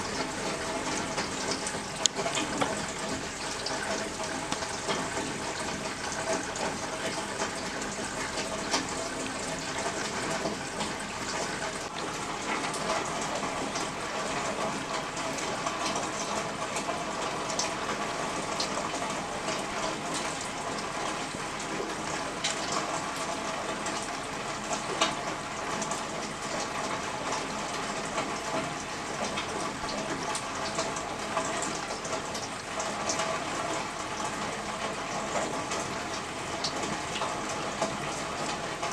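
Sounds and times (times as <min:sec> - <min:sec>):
steady rain: 0:00.0 - 0:38.9
water running and splashing: 0:00.0 - 0:38.9.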